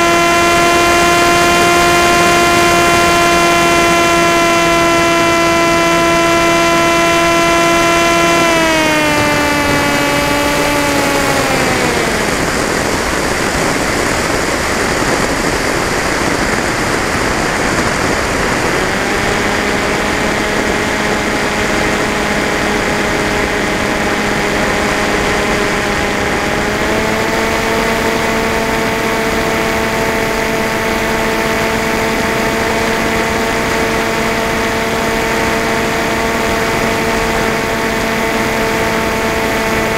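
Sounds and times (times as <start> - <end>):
electric motor and propeller whining: 0.0 - 39.9
wind rush over airframe: 0.0 - 39.9.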